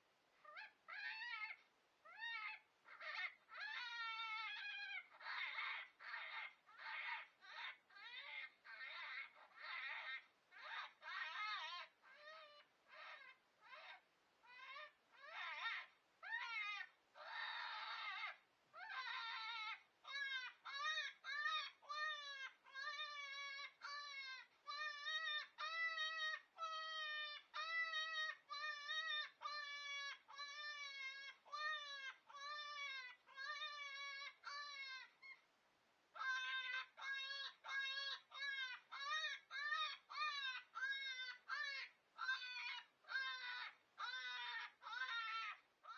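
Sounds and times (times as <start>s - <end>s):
shrill rabbit distress cries: 0.4s - 35.5s, 36.1s - 45.9s.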